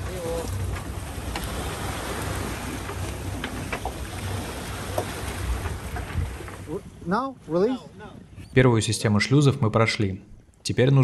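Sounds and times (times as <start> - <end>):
water washing along hull: 0.0 - 11.0.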